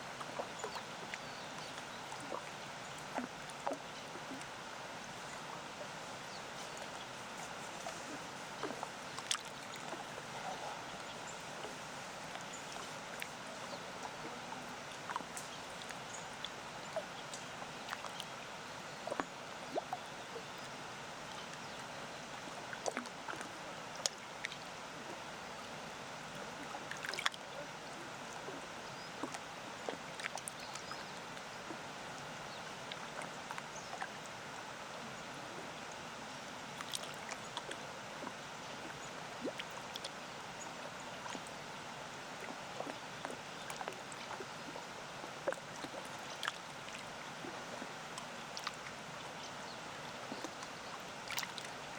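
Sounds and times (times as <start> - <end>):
small waves lapping: 0.0 - 51.9.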